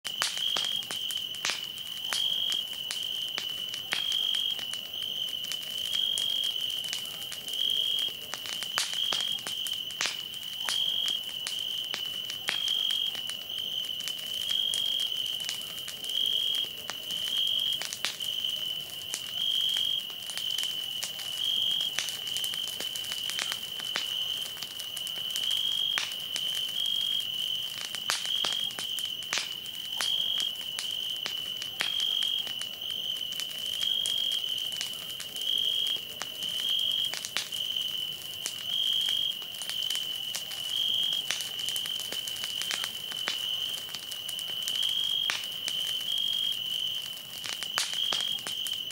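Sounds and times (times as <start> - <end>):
bonfire crackling and popping: 0.0 - 48.9
crickets trilling: 0.1 - 48.9.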